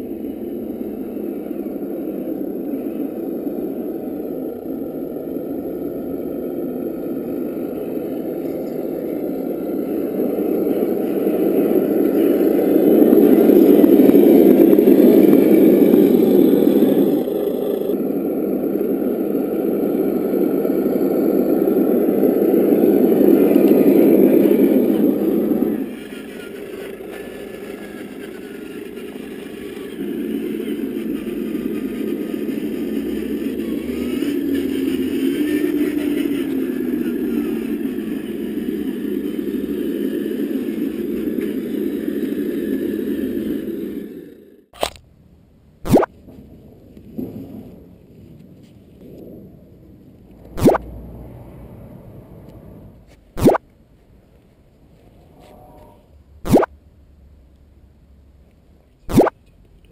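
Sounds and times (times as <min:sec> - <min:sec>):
simulated diesel engine sound: 0:00.0 - 0:59.9.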